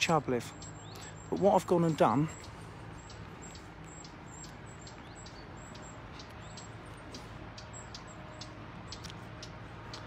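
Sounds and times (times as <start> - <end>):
low outdoor background hum: 0.0 - 10.0
small bird chirping: 0.0 - 10.0.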